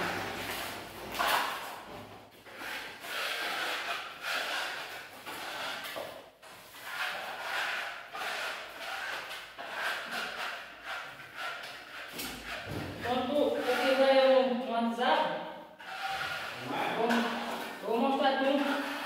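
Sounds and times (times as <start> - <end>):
trowel scraping over wall: 0.0 - 14.1, 15.8 - 19.0.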